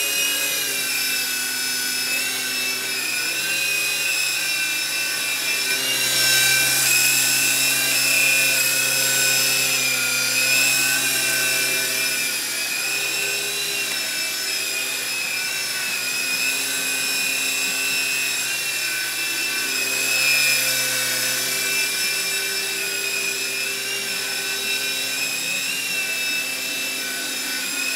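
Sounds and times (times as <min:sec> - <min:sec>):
toy helicopter motors whining: 0:00.0 - 0:27.9.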